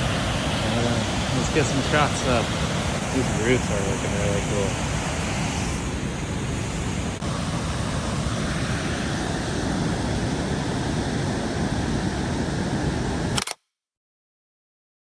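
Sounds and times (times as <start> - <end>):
waterfall rushing water: 0.0 - 13.4.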